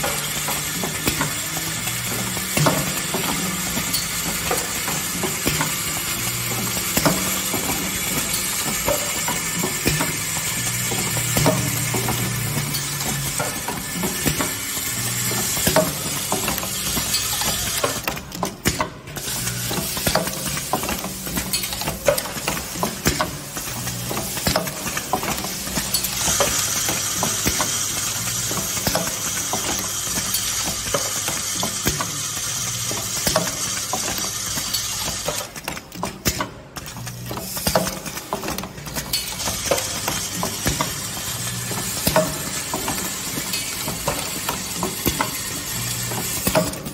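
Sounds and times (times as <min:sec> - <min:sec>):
machine rattling clatter: 0:00.0 - 0:46.9.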